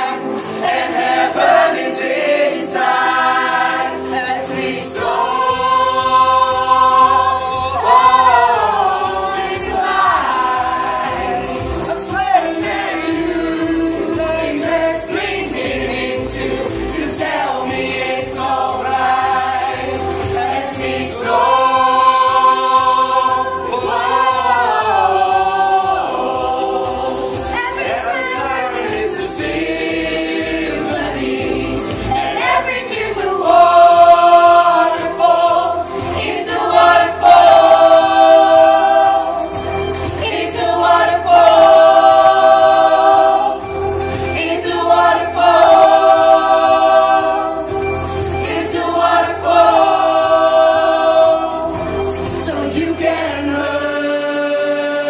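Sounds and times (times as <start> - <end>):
choir singing pop song: 0.0 - 55.0.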